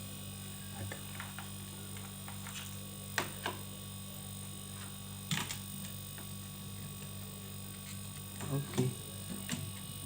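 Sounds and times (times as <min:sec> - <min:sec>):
refrigerator compressor hum: 0:00.0 - 0:10.0.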